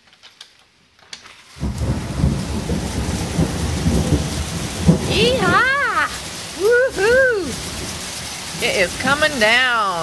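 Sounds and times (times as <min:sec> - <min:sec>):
hail and rain pelting down: 0:01.5 - 0:10.0
hailstones ticking: 0:01.5 - 0:10.0.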